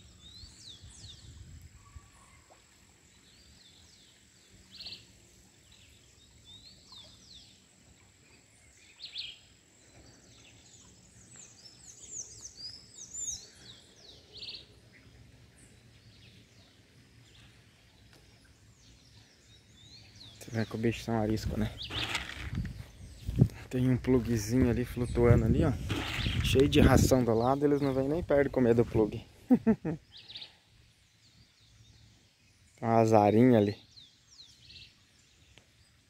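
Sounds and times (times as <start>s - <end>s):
birds chirping and twittering: 0.0s - 36.0s.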